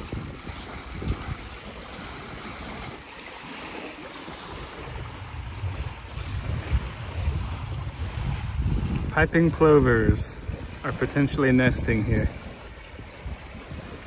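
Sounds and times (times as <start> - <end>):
waves lapping on pebble beach: 0.0 - 14.0
wind buffeting microphone: 0.0 - 14.0.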